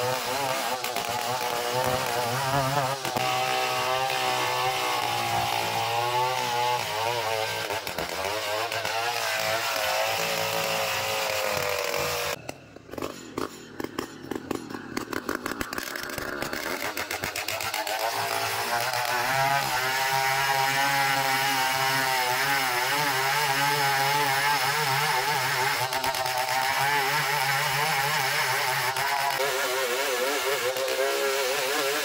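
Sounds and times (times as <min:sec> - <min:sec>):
chainsaw engine: 0:00.0 - 0:32.0.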